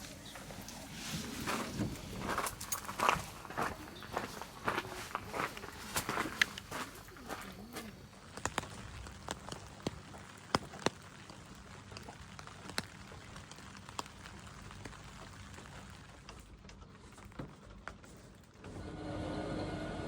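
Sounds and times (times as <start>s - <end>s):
low steady hiss: 0.0s - 16.6s.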